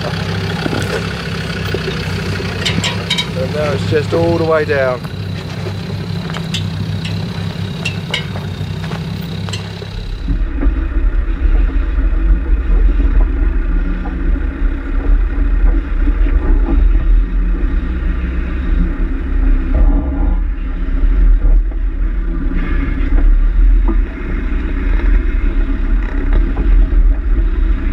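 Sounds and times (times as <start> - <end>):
heavy low rumble of vehicle: 0.0 - 27.9
stones clicking under tyres: 0.0 - 27.9
vehicle engine running low: 0.0 - 27.9.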